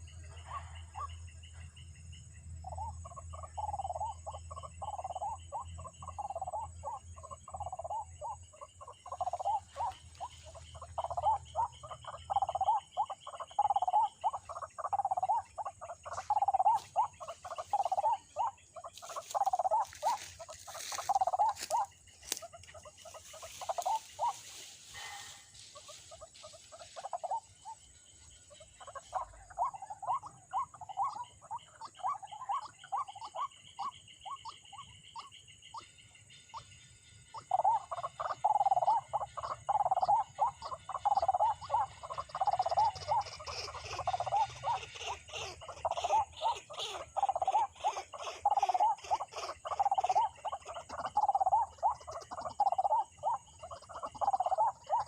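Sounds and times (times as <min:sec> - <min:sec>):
bird croaking calls: 0:00.0 - 0:55.0
high bird chattering: 0:02.7 - 0:27.8, 0:28.5 - 0:35.3, 0:37.4 - 0:55.0.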